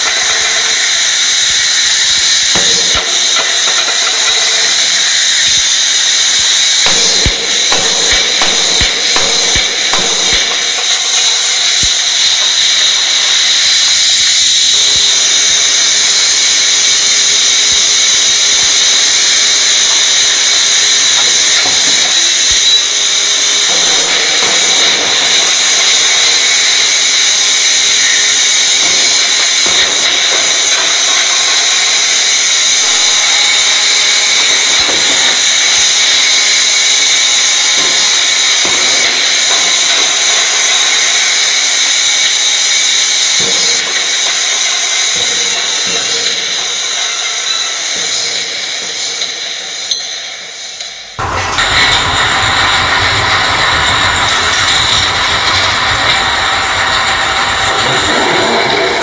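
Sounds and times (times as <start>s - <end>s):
machine whine with hiss: 0.0s - 59.0s.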